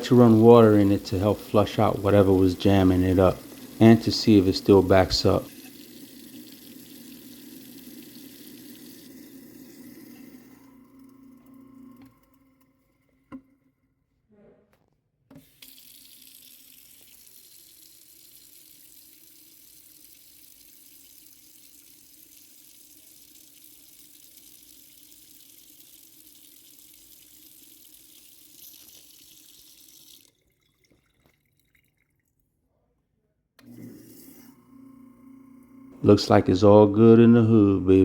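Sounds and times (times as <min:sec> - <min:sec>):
faucet water rushing down drain: 0:00.0 - 0:13.4, 0:15.4 - 0:32.3, 0:33.6 - 0:38.0.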